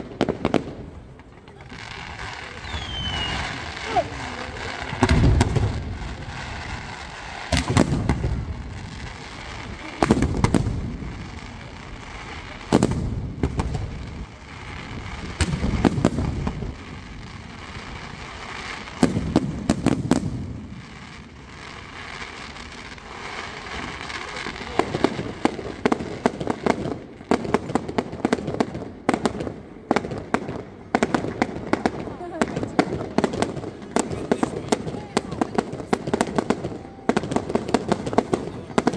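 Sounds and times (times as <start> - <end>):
firework sharp cracks: 0.0 - 38.9
firework shells booming: 0.0 - 38.9.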